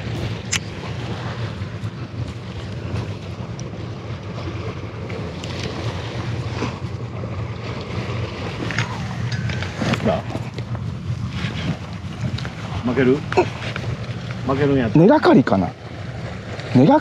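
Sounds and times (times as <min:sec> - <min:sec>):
sea waves against a seawall: 0:00.0 - 0:17.0
wind buffeting the microphone: 0:00.0 - 0:17.0.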